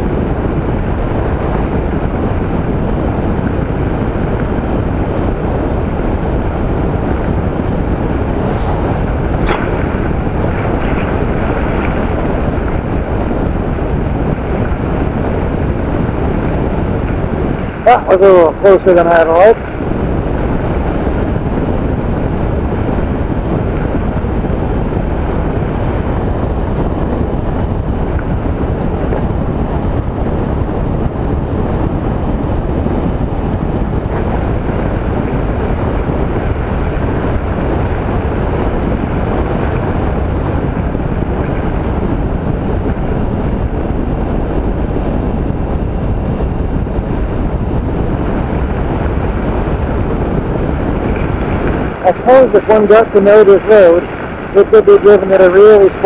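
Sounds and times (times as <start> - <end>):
motorcycle engine and tyre noise: 0.0 - 18.5, 19.1 - 56.0
wind rush on microphone: 0.0 - 56.0.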